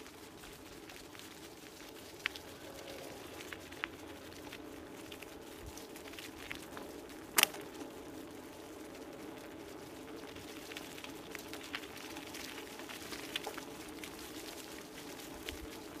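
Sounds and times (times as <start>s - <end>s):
scooter rolling on dirt trail: 0.0s - 16.0s.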